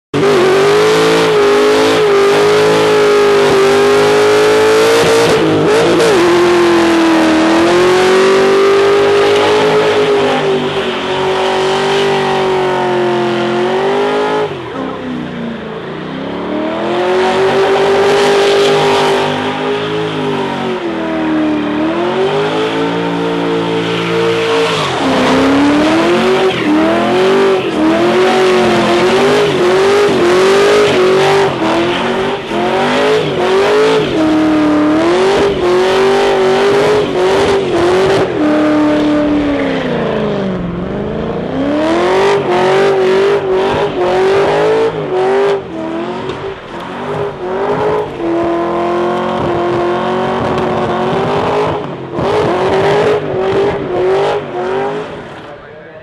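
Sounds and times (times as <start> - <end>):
car engine revving: 0.1 - 56.0.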